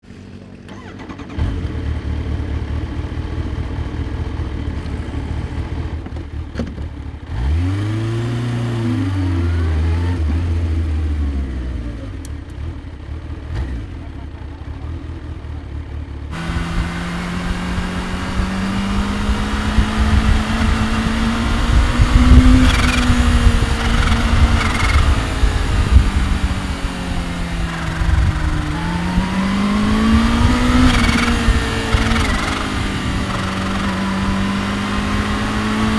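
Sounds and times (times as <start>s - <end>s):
motorcycle engine running: 0.0s - 7.6s, 8.8s - 35.9s.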